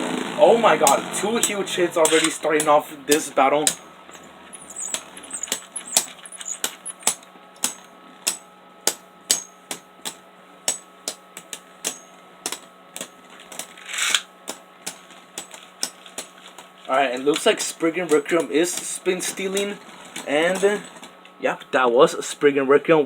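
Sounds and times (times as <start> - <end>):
spinning tops clashing: 0.8 - 19.8.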